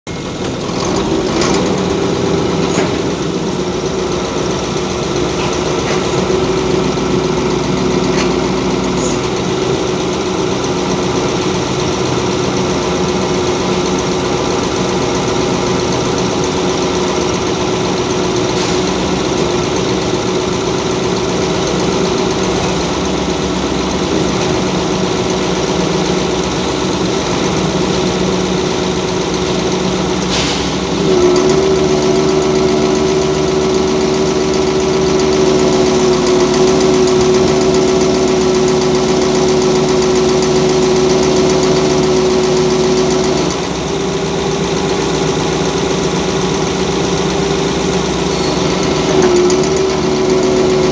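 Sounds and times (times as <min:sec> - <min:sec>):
crane engine hum: 0:00.1 - 0:50.9.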